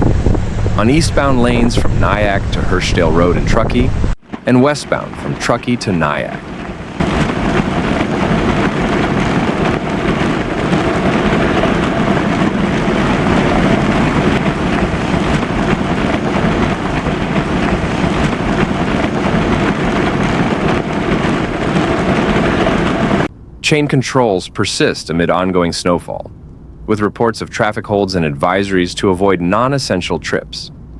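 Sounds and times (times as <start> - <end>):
wind: 0.0 - 30.9.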